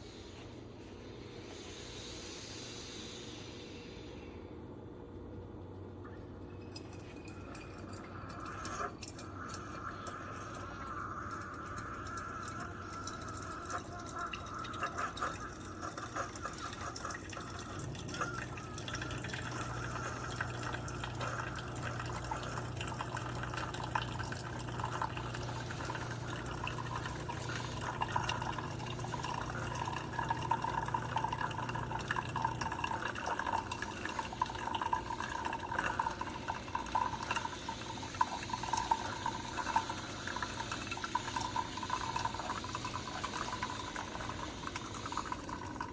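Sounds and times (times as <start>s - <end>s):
low pump hum: 4.5s - 45.9s
coffee trickling into a cup: 6.0s - 45.9s.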